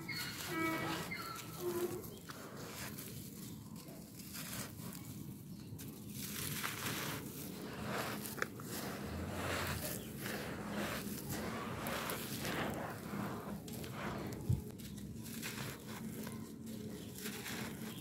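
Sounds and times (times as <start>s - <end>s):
dry dirt crumbling and crunching: 0.0s - 18.0s
gritty soil trickling: 0.0s - 18.0s.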